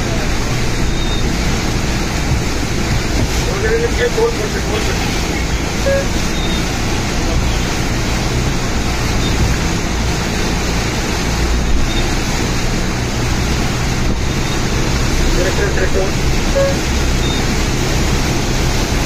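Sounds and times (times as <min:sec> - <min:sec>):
heavy rain: 0:00.0 - 0:19.0
wind: 0:00.0 - 0:19.0.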